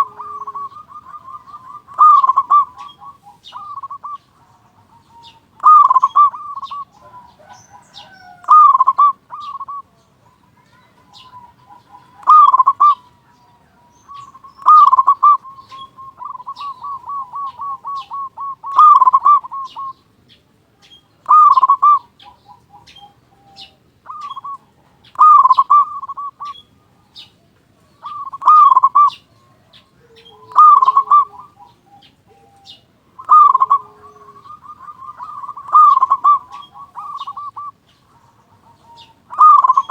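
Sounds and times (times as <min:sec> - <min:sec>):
dove cooing with rolling trill: 0:00.0 - 0:20.1, 0:20.8 - 0:39.9
faint high bird chirps: 0:00.0 - 0:39.9.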